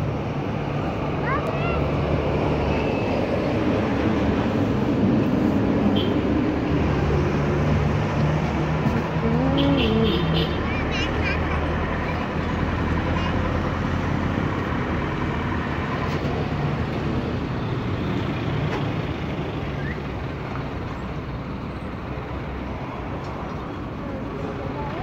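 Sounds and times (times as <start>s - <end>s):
road traffic noise: 0.0s - 25.0s
vehicle engine rumbling: 0.0s - 25.0s.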